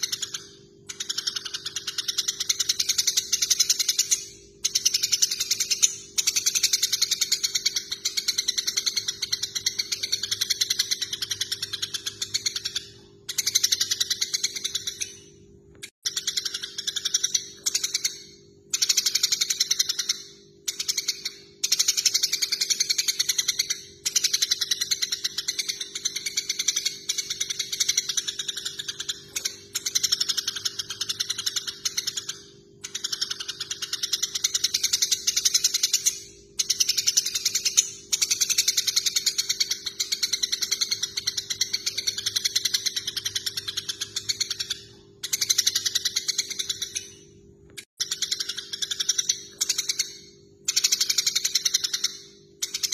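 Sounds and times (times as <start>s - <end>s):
sparrows chattering: 0.0s - 15.4s, 16.0s - 52.9s.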